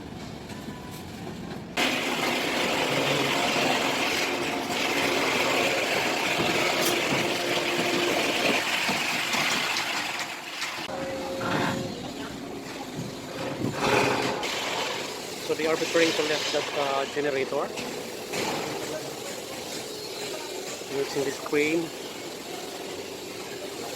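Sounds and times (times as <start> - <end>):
loud machinery noise: 1.8 - 23.9.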